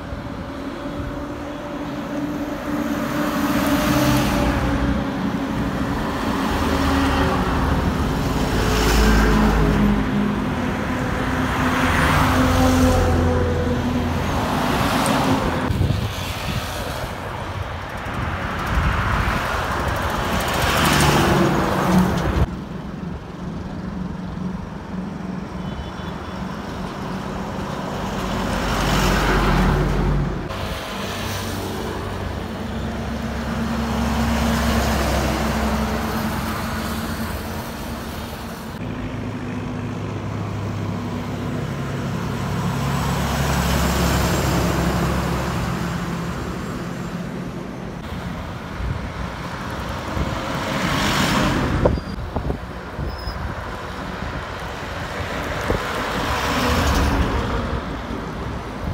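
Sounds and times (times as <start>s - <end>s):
diesel lorries passing: 0.0s - 25.6s, 26.3s - 58.9s
tyre and road noise: 0.0s - 58.9s.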